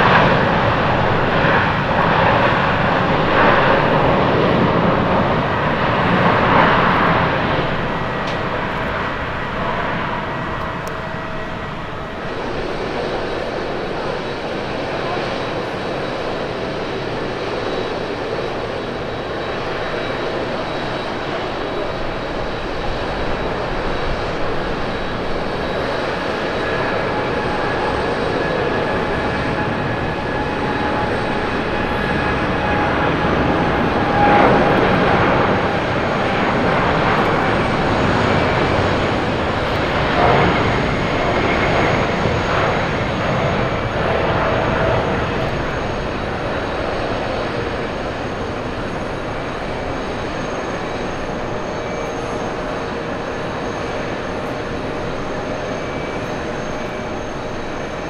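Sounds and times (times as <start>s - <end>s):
jet engines roaring at takeoff: 0.0s - 58.0s.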